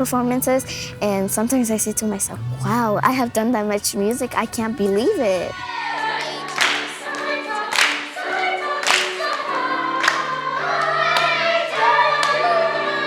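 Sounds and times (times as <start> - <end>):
instrumental accompaniment: 0.0 - 12.8
children's choir singing: 0.0 - 13.0.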